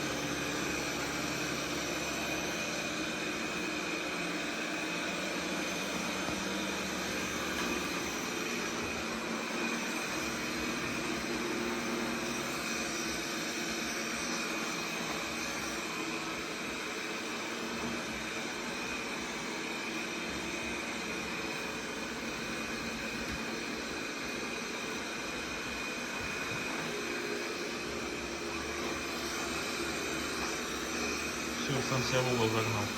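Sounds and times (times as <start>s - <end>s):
robot vacuum cleaner whirring: 0.0s - 32.9s.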